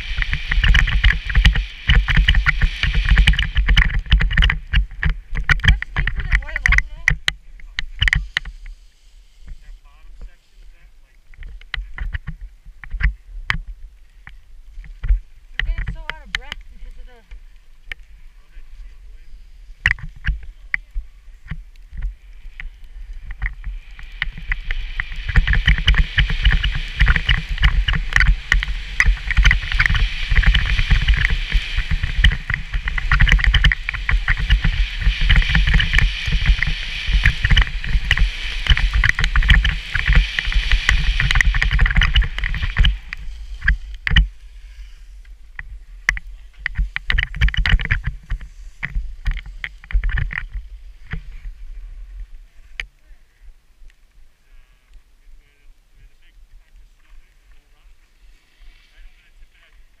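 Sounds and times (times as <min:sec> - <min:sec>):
wind buffeting microphone: 0:00.0 - 0:10.4, 0:11.2 - 0:53.7
skis scraping over snow: 0:00.0 - 0:53.4, 0:54.4 - 1:00.0.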